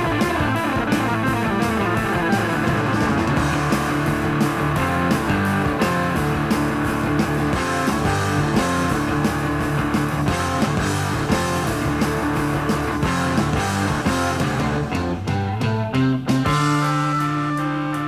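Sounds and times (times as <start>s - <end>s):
rock music led by guitar: 0.0s - 18.0s.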